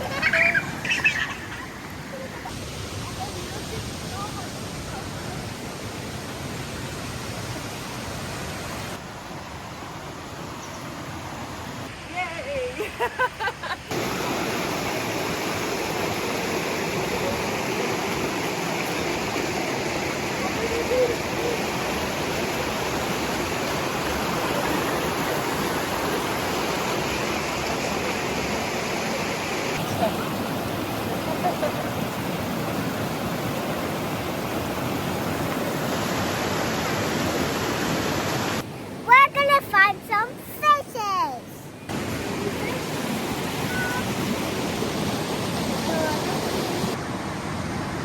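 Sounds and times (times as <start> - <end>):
river and waterfalls rushing: 0.0 - 48.0.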